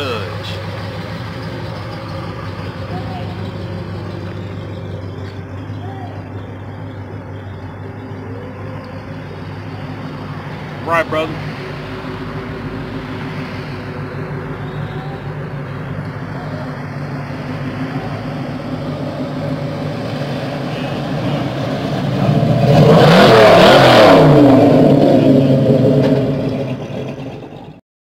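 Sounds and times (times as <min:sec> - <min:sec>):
car driving past: 0:00.0 - 0:27.8
car engines idling: 0:00.0 - 0:27.8.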